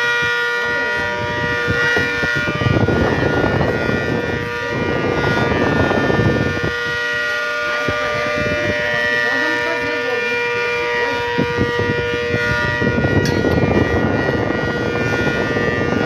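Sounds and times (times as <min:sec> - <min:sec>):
tornado warning siren: 0:00.0 - 0:16.0.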